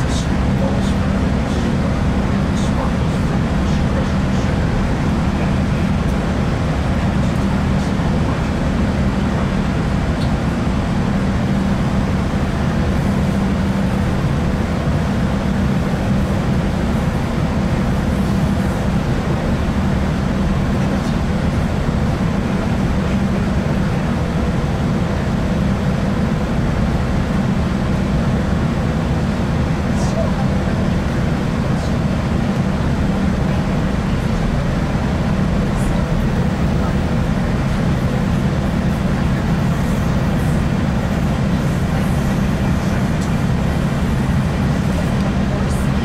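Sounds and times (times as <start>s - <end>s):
train diesel engine drone: 0.0s - 46.0s
wheel-on-rail rumble: 0.0s - 46.0s.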